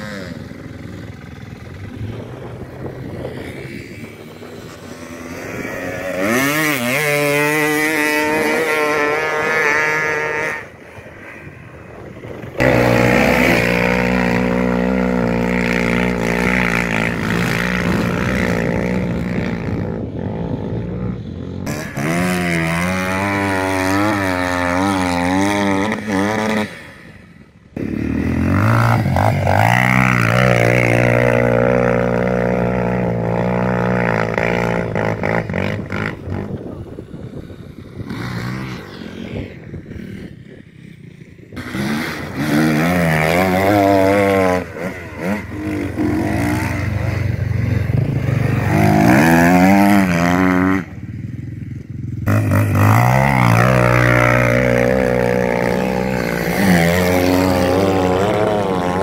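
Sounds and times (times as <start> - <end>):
off-road engines revving: 0.0 - 59.0.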